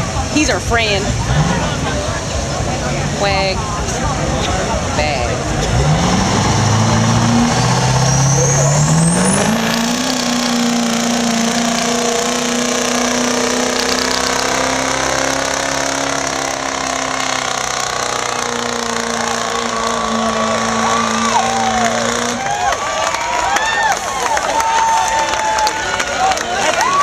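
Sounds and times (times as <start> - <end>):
pickup engine at full throttle: 0.0 - 27.0.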